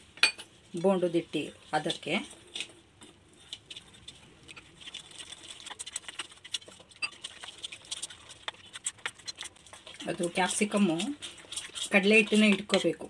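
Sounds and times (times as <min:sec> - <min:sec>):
batter stirred in steel bowl: 0:00.5 - 0:13.0.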